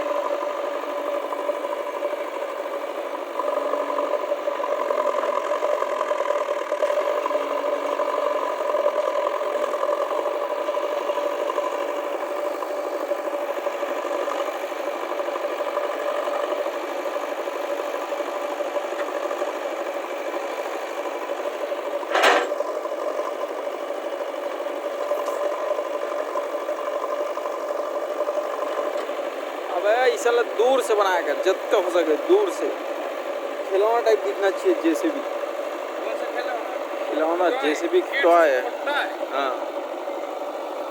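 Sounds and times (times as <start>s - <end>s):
diesel engine running with rattle: 0.0s - 40.9s.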